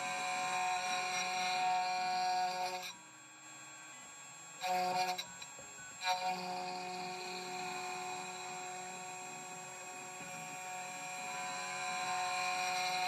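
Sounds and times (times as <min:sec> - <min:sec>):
key cutting machine whine: 0:00.0 - 0:13.0.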